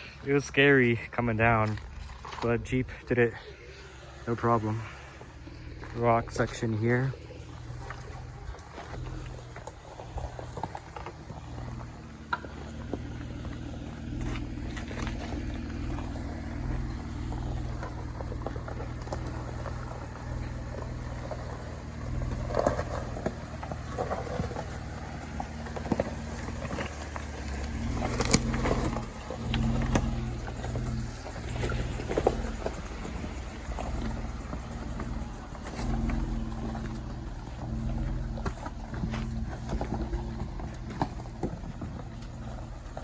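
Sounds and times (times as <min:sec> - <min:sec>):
engine running low: 0:00.0 - 0:43.0
tyres knocking and crunching on rocks: 0:03.6 - 0:43.0.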